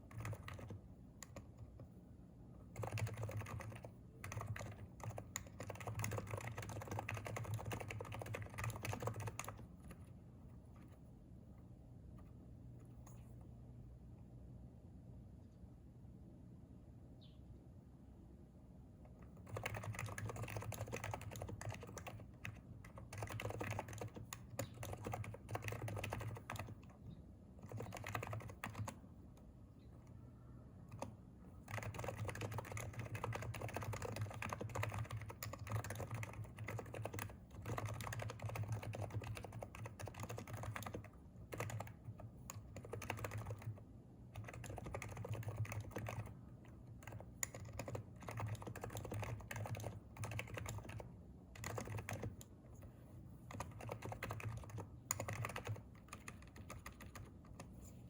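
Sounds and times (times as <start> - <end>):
keyboard typing: 0.0 - 1.9, 2.7 - 11.0, 19.1 - 30.2, 30.8 - 58.0.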